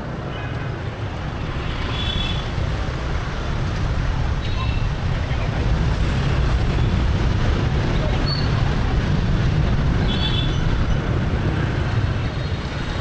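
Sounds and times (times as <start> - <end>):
motorbike engine and road noise: 0.0 - 13.0.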